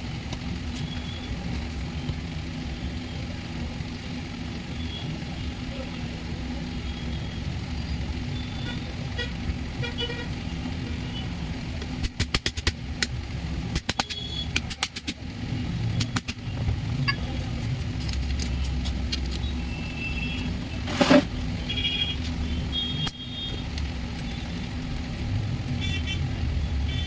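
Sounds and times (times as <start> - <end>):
vehicle traffic hum: 0.0 - 27.0.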